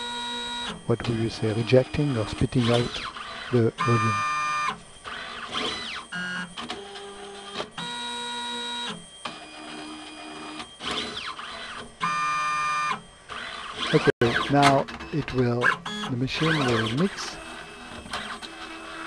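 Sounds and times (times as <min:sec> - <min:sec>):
robot motors whining: 0:00.0 - 0:19.0.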